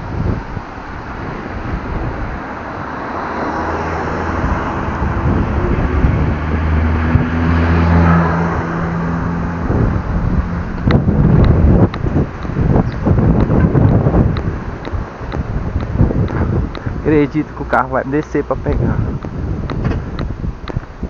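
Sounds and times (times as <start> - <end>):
traffic noise: 0.0 - 21.0
wind: 0.0 - 21.0
vehicle driving past: 0.1 - 20.6.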